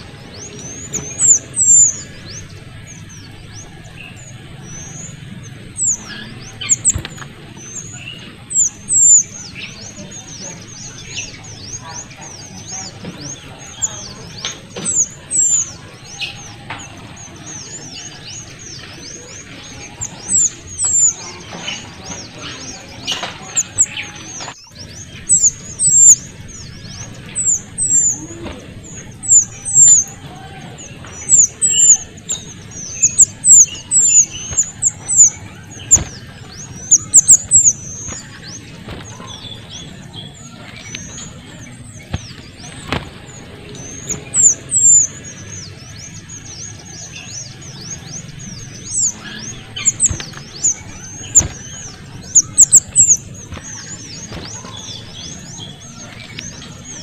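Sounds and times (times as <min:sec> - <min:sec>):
small songbird high squeaky chirps: 0:00.0 - 0:57.0.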